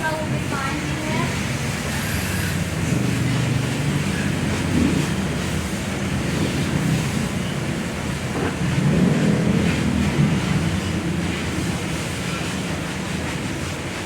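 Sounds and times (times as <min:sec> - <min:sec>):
pressure washer water spray: 0:00.0 - 0:14.0.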